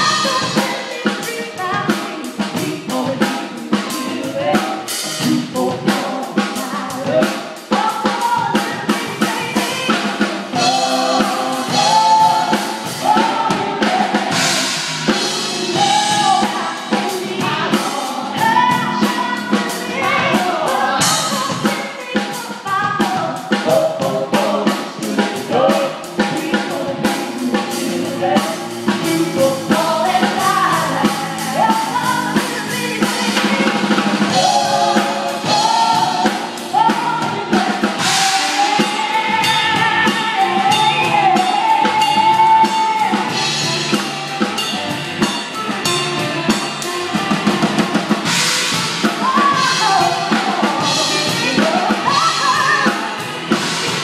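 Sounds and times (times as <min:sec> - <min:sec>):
choir singing in harmony: 0:00.0 - 0:07.8, 0:08.8 - 0:22.4, 0:23.3 - 0:45.3, 0:46.7 - 0:54.0
drum kit steady beat: 0:00.0 - 0:54.0.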